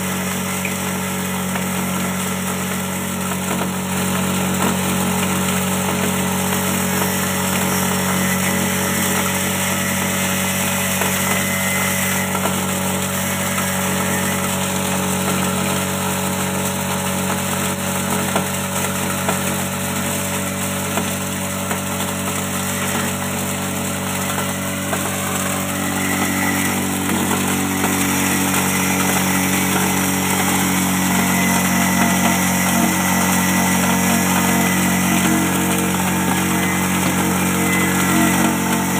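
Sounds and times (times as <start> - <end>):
electric grinder humming: 0.0 - 38.9.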